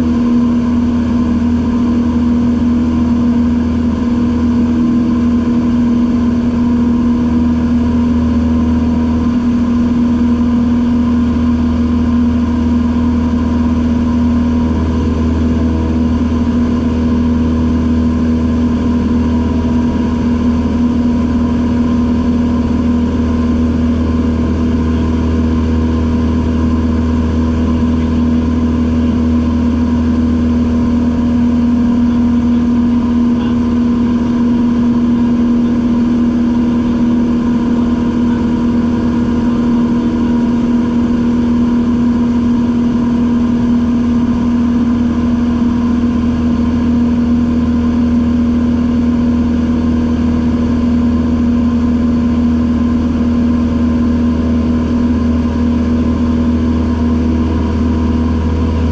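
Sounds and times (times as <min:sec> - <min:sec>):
propeller plane engine humming: 0:00.0 - 0:58.9.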